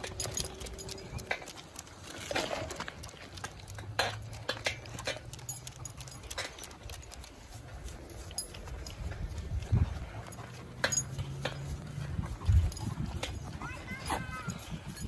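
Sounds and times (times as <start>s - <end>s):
dog paws clicking on pavement: 0.0s - 15.0s.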